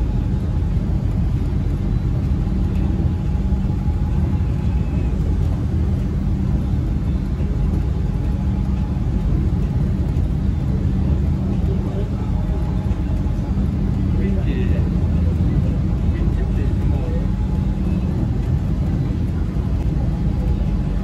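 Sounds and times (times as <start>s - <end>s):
faint whine: 0.0s - 21.0s
train rumble: 0.0s - 21.0s.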